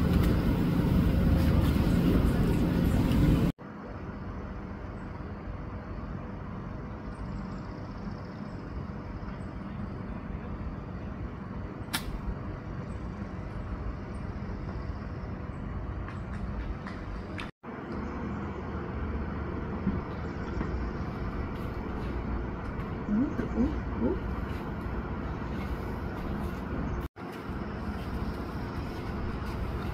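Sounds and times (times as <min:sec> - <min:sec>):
outdoor background hum: 0:00.0 - 0:29.9.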